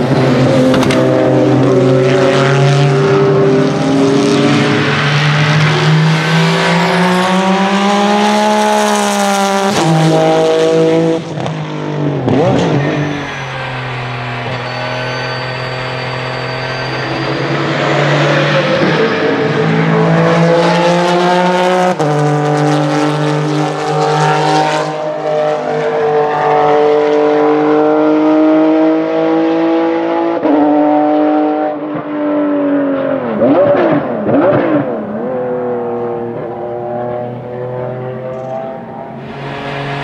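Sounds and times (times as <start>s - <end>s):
race car engine at full throttle: 0.0s - 40.0s.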